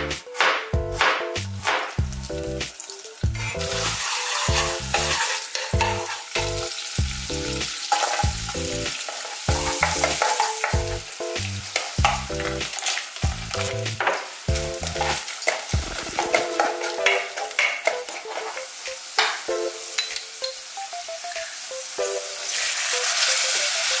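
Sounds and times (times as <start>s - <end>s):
garlic sizzling in oil: 1.0s - 24.0s.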